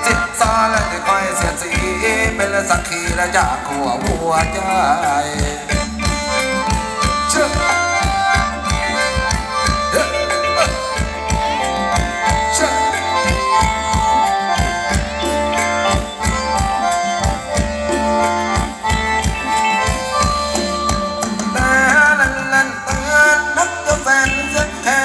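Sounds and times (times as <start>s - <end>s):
drum beat: 0.0s - 23.3s
bass: 0.0s - 25.0s
reedy mouth organ melody: 0.0s - 25.0s.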